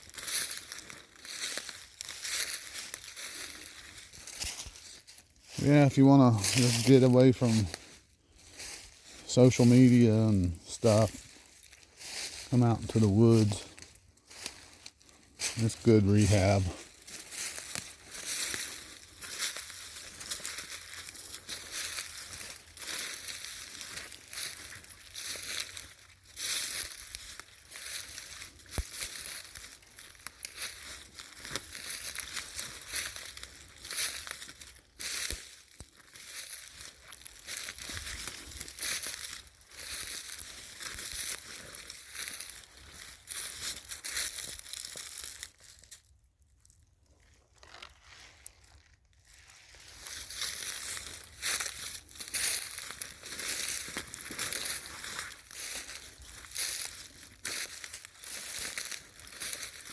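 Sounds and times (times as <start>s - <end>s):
footsteps crunching dry leaves: 0.0s - 59.9s.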